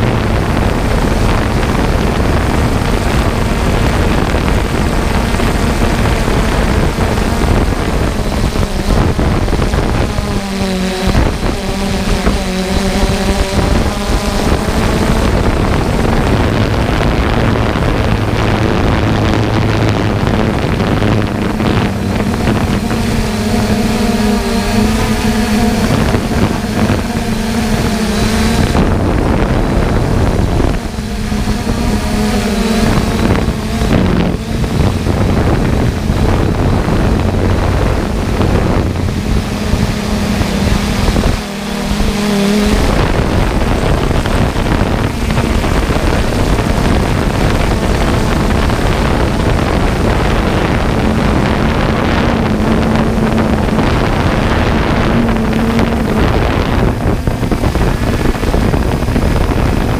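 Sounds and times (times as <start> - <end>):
machinery engine running: 0.0 - 59.9
wind buffeting microphone: 0.0 - 59.9.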